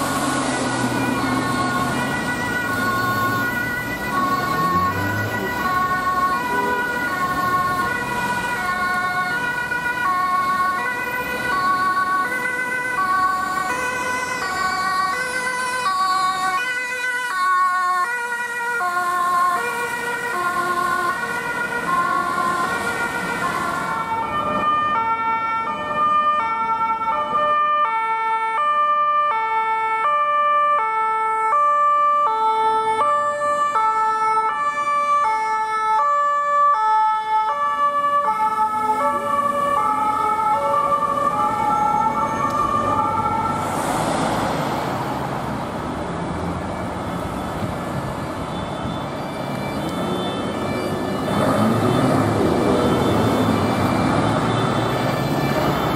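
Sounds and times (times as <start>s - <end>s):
police two-tone siren: 0.0s - 45.1s, 46.0s - 55.9s
ambulance two-tone siren: 0.0s - 55.9s.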